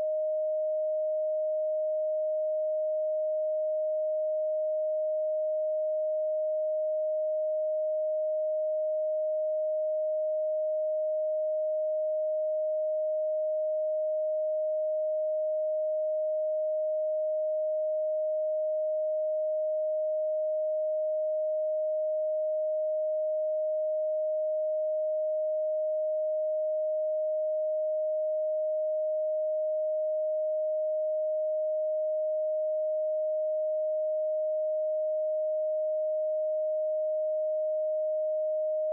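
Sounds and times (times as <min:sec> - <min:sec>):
steady sine tone: 0:00.0 - 0:38.9.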